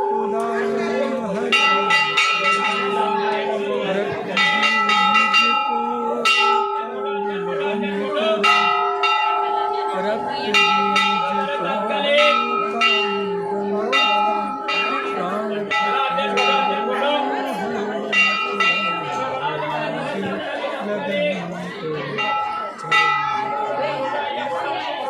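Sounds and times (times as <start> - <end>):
faint wavering voices: 0.0 - 25.0
temple bells ringing: 0.0 - 25.0.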